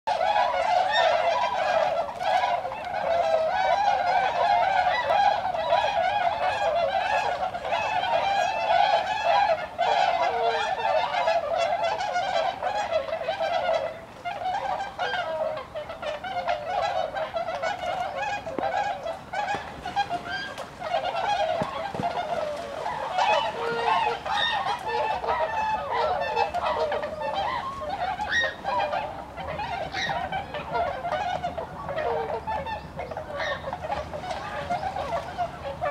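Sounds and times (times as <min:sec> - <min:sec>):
flock of swans calling: 0:00.1 - 0:35.9.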